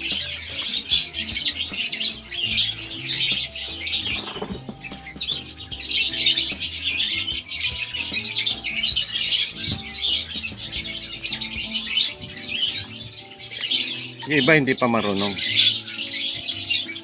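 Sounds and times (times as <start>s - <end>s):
nestling birds chirping: 0.0s - 17.0s.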